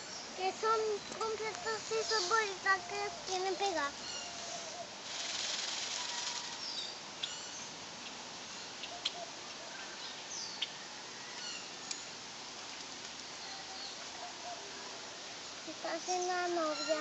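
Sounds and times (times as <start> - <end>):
small birds chirping: 0.0 - 14.6, 15.6 - 17.0
rustling hiss: 0.0 - 17.0.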